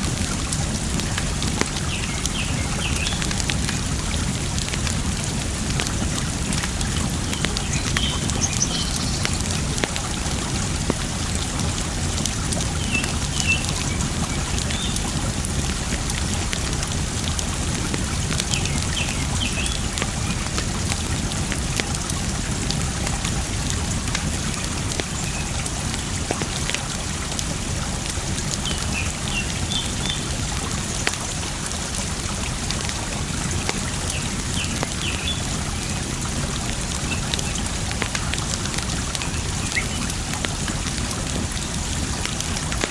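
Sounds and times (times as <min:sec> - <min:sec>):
campfire crackling and popping: 0:00.0 - 0:42.9
running water: 0:00.0 - 0:42.9.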